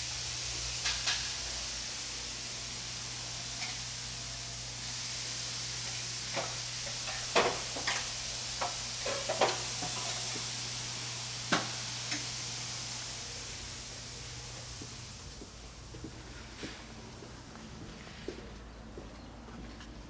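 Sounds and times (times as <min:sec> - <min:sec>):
steady hiss: 0:00.0 - 0:18.3.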